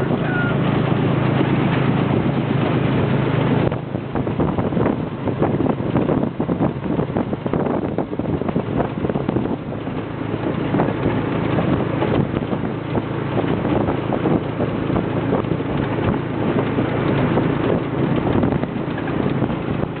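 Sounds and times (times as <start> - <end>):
motorcycle engine hum: 0.0 - 20.0
wind buffeting microphone: 0.0 - 20.0.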